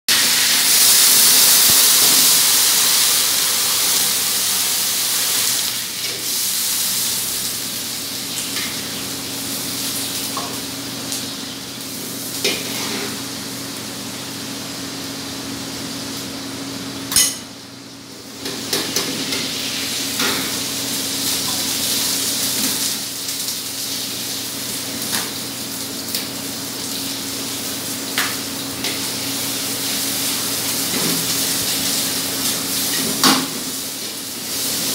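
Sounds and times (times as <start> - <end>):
food sizzling in a wok: 0.1 - 34.9.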